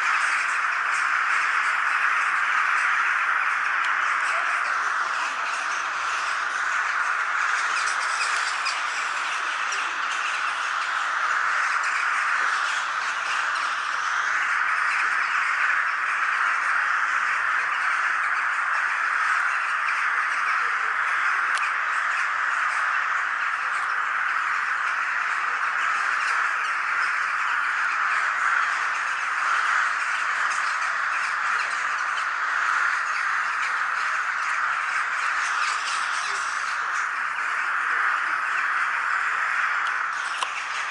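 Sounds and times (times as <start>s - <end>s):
crows cawing: 0.0s - 40.9s.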